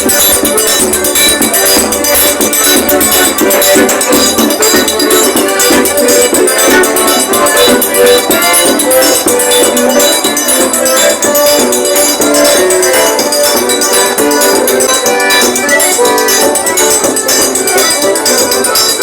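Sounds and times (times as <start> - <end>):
loud folk dance music: 0.0 - 19.0.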